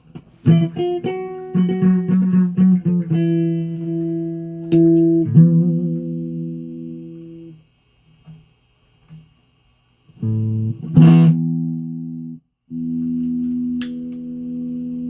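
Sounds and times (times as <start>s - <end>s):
plucked guitar: 0.1s - 7.4s, 10.2s - 15.0s.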